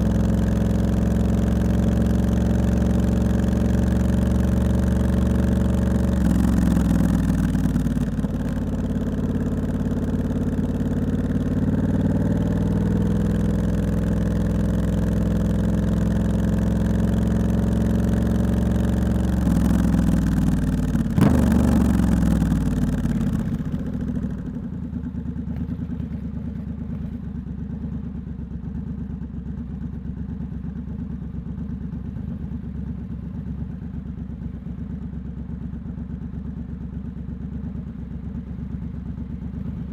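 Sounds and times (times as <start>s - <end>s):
motorcycle engine: 0.0s - 34.8s.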